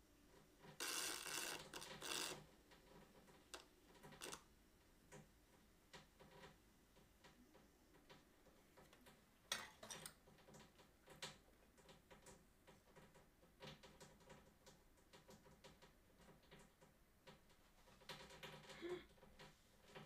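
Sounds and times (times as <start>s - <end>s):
faint irregular clicks and taps: 0.3s - 20.0s.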